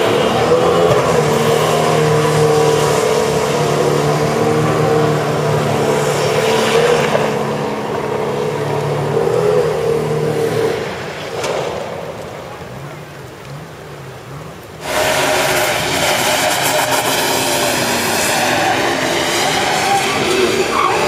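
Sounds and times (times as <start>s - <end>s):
truck engine revving high: 0.0s - 12.0s, 14.8s - 21.0s.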